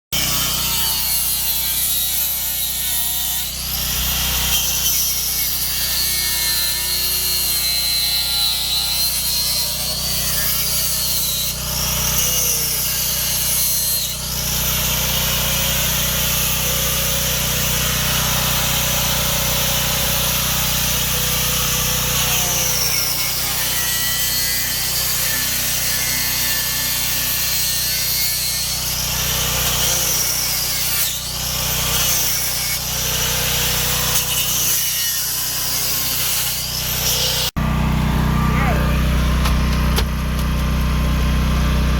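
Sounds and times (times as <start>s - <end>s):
power saw cutting fibreglass: 0.1s - 41.9s.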